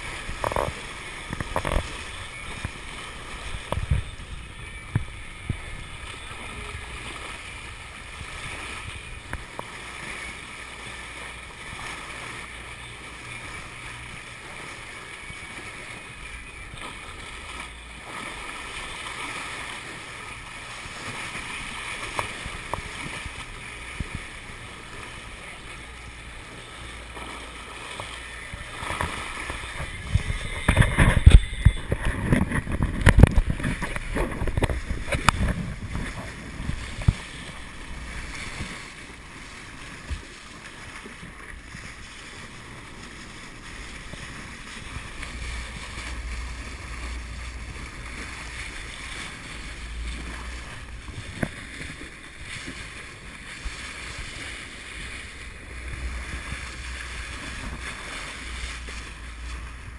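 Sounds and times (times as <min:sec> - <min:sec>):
bow thumping on waves: 0:00.0 - 0:25.8, 0:26.9 - 0:59.9
bow wave rushing and splashing: 0:00.0 - 0:59.9.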